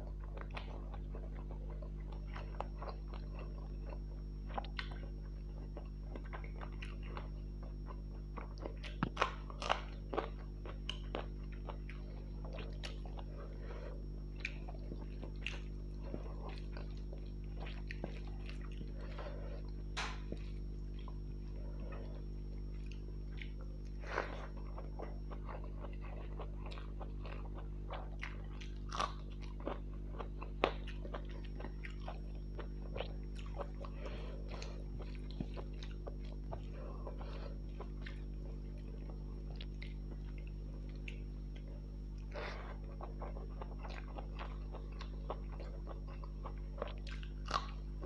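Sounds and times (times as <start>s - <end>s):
low hum: 0.0s - 48.0s
person chewing with wet mouth sounds: 0.0s - 48.0s.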